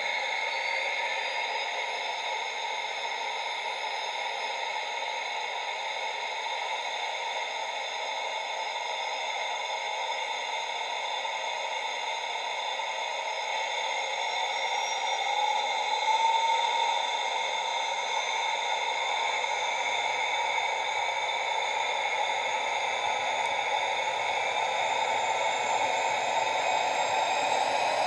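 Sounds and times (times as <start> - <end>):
hissing turbine whine from speaker: 0.0 - 28.0
thin high whine rising in pitch: 0.0 - 28.0.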